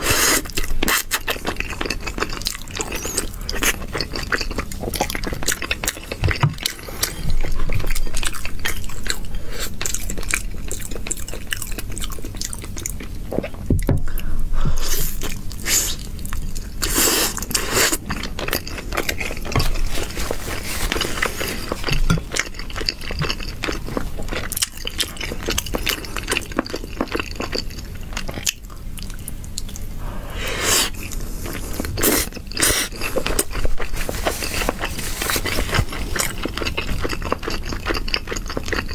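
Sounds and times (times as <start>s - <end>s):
wet chewing: 0.0s - 14.3s, 15.0s - 29.9s, 30.8s - 38.9s.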